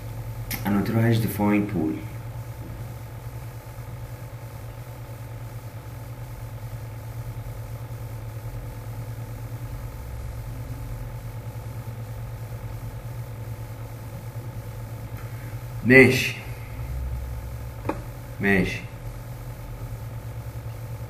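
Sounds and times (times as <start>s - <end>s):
low pulsing motor hum: 0.0s - 21.0s.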